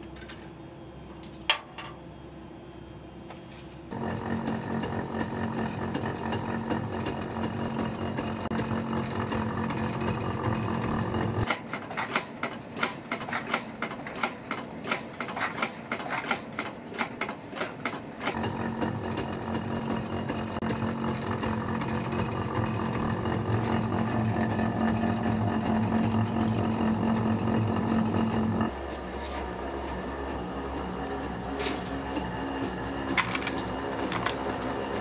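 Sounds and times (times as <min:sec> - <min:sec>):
machinery hum: 0:00.0 - 0:11.5, 0:16.8 - 0:35.0.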